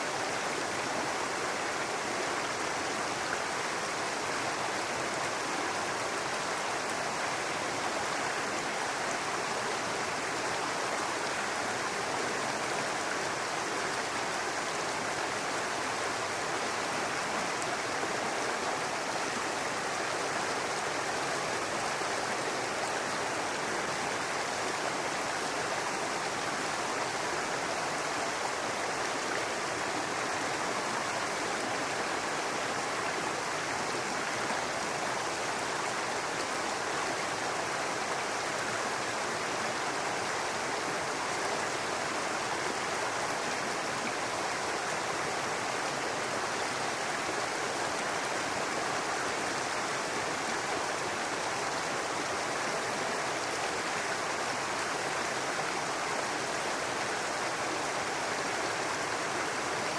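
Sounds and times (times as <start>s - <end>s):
brook babbling over rocks: 0.0s - 59.9s.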